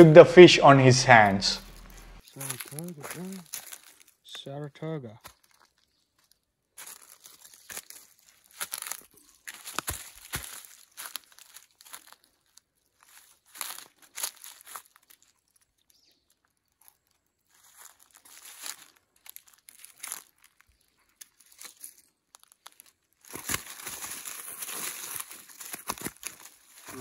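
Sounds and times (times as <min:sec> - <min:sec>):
rustling and crackling: 0:01.6 - 0:04.2, 0:05.2 - 0:27.0.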